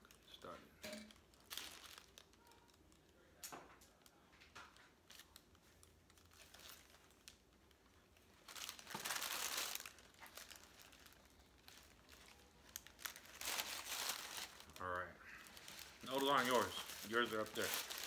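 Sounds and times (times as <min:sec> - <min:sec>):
paper wrappers crinkling: 0:00.0 - 0:03.2, 0:03.9 - 0:18.0.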